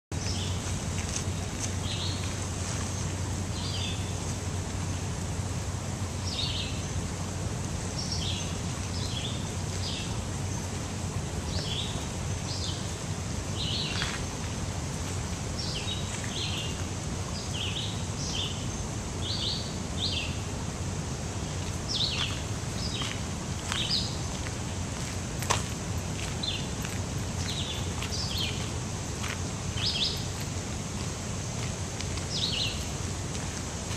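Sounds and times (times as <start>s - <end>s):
steady outdoor hiss: 0.1s - 33.9s.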